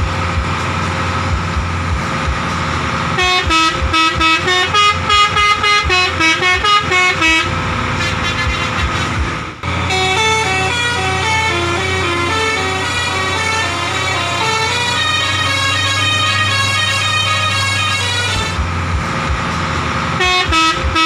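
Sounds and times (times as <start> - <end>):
bus engine running: 0.0 - 21.0
multi-tone bus horn tune: 0.0 - 21.0.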